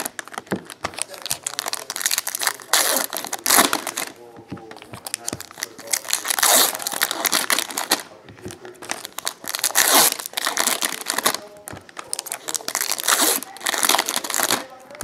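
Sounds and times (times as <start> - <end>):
card pack wrappers tearing and crinkling: 0.0 - 4.3, 4.9 - 15.0.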